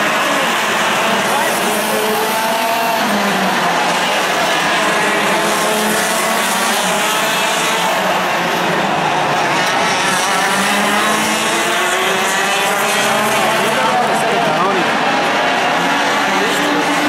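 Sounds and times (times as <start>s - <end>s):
racing kart engines: 0.0s - 17.0s.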